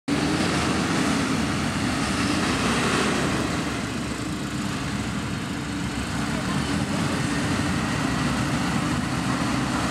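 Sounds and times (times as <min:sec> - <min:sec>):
broad rushing noise: 0:00.1 - 0:09.9
tractor diesel engines running: 0:00.1 - 0:09.9.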